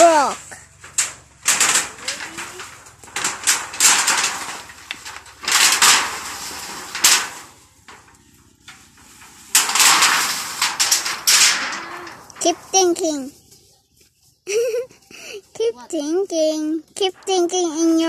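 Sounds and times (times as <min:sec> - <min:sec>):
metal roofing sheet scraping and rattling: 0:00.0 - 0:13.5, 0:15.5 - 0:18.0.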